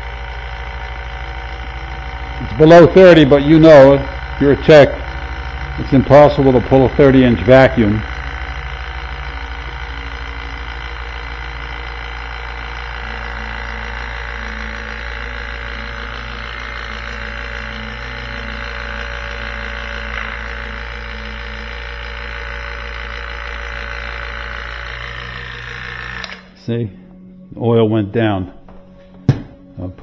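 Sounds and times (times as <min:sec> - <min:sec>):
vacuum pump humming: 0:00.0 - 0:30.0.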